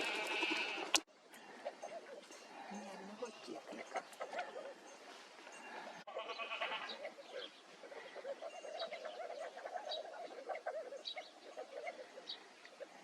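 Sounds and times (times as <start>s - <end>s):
birds chattering: 0.0s - 13.0s.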